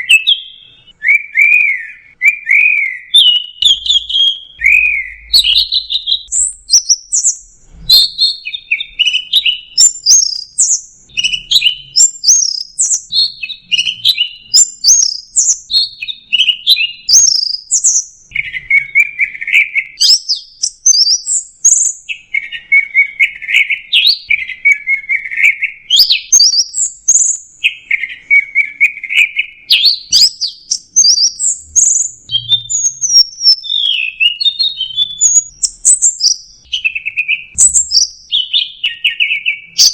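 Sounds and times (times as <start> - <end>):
bird singing varied phrases: 0.0 - 39.9.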